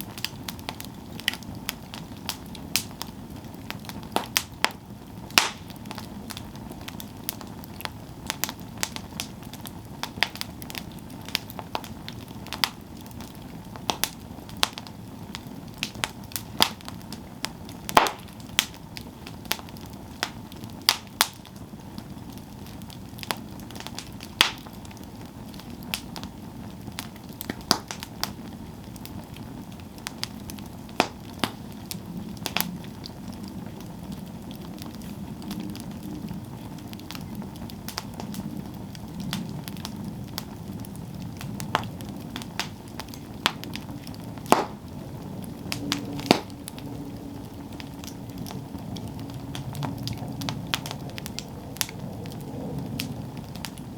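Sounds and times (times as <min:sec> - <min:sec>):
campfire crackling and popping: 0:00.0 - 0:53.9
low rush of flame: 0:00.0 - 0:53.9.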